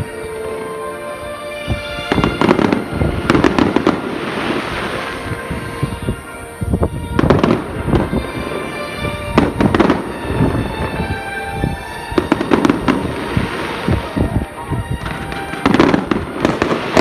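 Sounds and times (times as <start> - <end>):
music playing: 0.0 - 17.0
fireworks bangs and crackles: 1.6 - 17.0.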